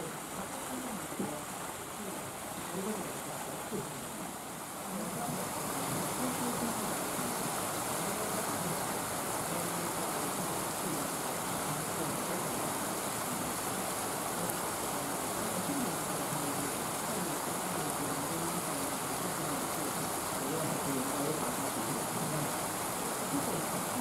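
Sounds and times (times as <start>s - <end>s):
distant voices murmuring: 0.0s - 24.0s.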